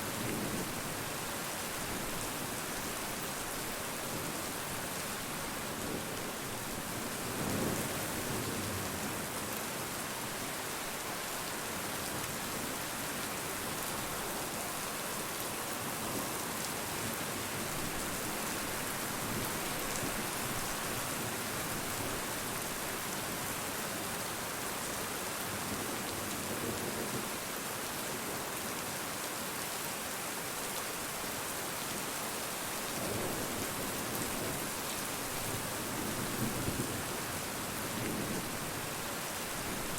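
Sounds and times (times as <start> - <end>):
rain pattering on surfaces: 0.1 - 39.9.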